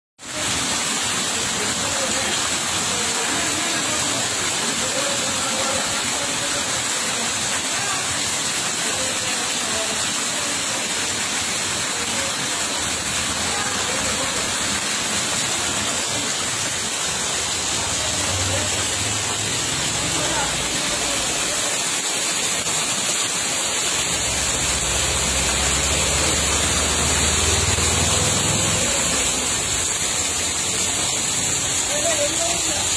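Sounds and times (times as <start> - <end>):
heavy rain on flooded ground: 0.2 - 32.9
running water: 0.2 - 32.9.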